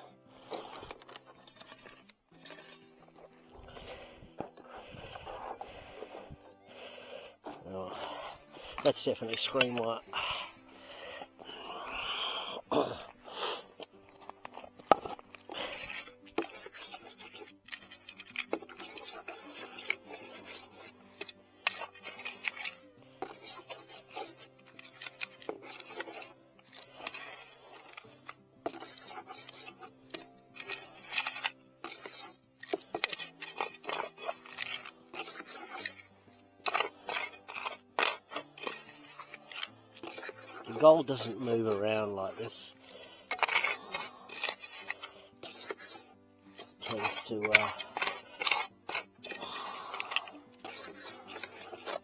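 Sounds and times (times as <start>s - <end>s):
scraping of stony soil: 0.0s - 52.0s.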